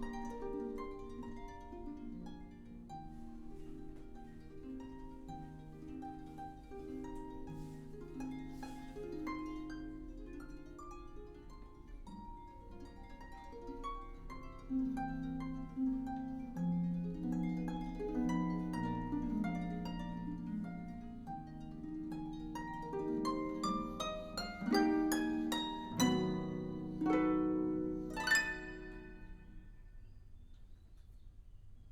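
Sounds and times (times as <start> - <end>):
concert harp playing: 0.0 - 30.1.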